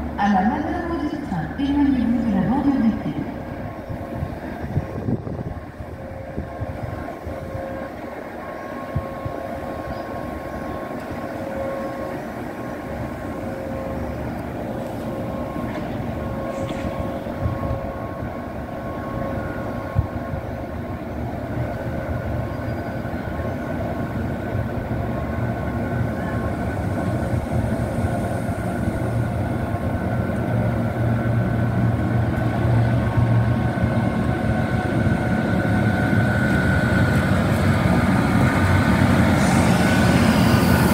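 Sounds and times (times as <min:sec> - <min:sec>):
electric locomotive humming: 0:00.0 - 0:40.9.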